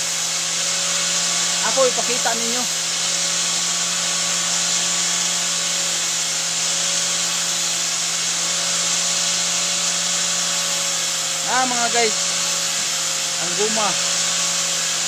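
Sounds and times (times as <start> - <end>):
machine motor humming with hiss: 0.0 - 15.0.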